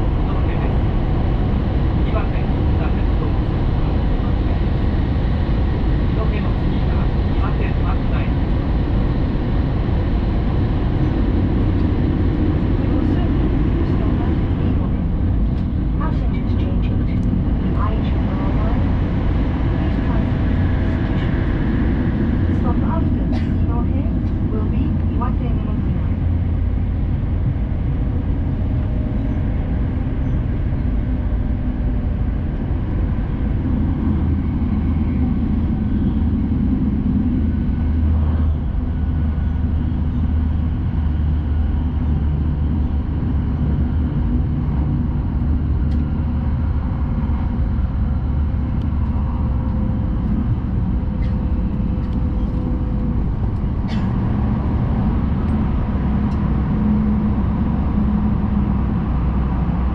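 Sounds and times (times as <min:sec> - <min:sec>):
train cabin rumble: 0:00.0 - 0:59.9.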